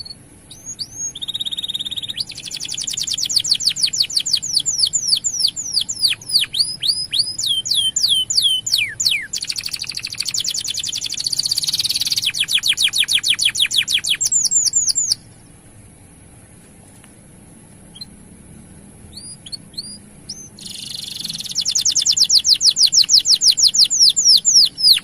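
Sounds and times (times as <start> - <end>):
canary singing: 0.0 - 15.6, 17.9 - 18.2, 19.0 - 25.0.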